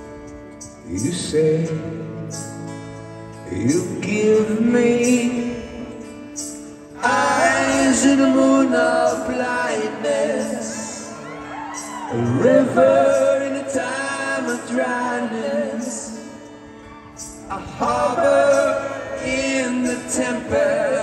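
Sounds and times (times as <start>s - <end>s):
strummed acoustic guitar: 0.0s - 21.0s
man singing: 0.8s - 2.7s, 3.4s - 6.3s, 6.9s - 21.0s.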